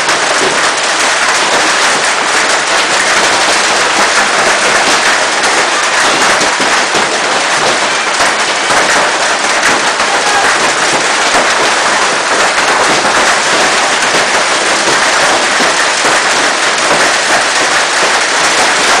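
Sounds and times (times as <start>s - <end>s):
hailstones clattering: 0.0s - 19.0s.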